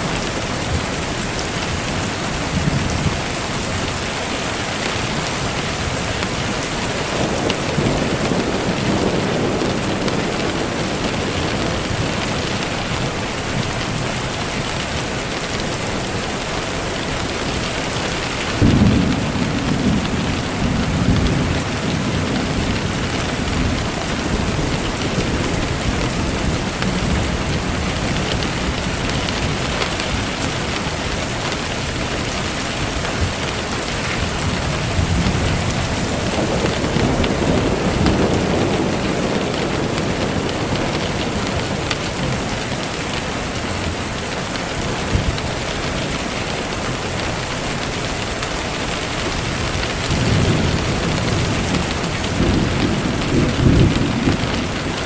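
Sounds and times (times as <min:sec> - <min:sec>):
rain falling: 0:00.0 - 0:55.0
thunder rumbling: 0:00.0 - 0:55.0.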